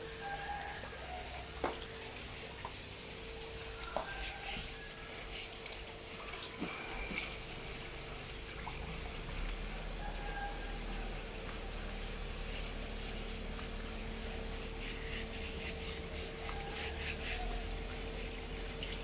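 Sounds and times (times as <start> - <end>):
hand scrubbing carcass: 0.0 - 19.0
water trickling from a hose: 0.0 - 19.0.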